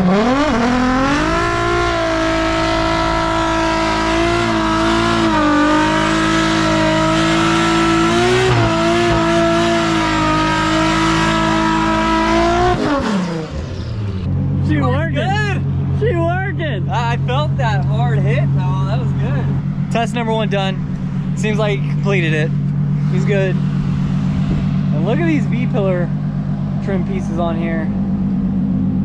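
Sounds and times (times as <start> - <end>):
turbocharged engine revving: 0.0 - 29.0.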